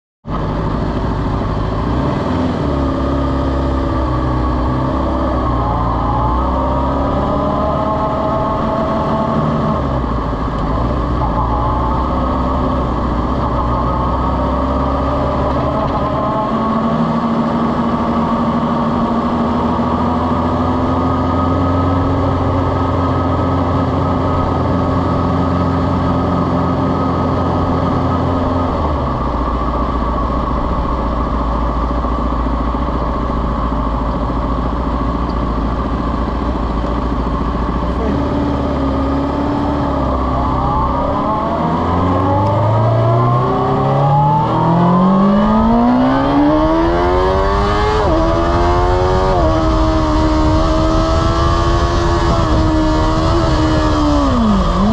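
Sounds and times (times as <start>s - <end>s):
motorcycle engine at low revs: 0.2s - 54.9s.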